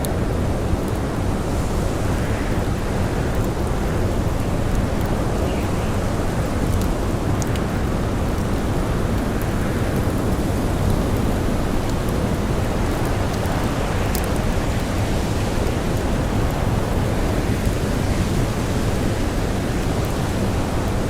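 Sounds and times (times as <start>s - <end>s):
faint campfire crackles: 0.0s - 21.0s
blizzard wind rushing: 0.1s - 21.0s.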